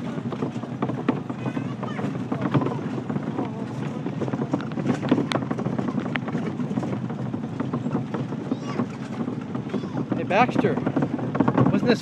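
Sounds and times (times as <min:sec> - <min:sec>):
train car rattling over track: 0:00.0 - 0:12.0.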